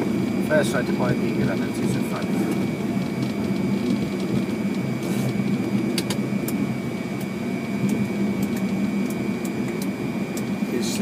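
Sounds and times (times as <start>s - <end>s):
engine and wheel rumble: 0.0s - 11.0s.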